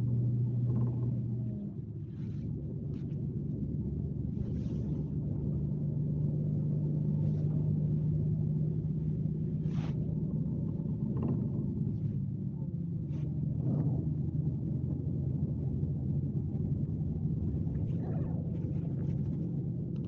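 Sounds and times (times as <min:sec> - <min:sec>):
coach engine drone: 0:00.0 - 0:20.0.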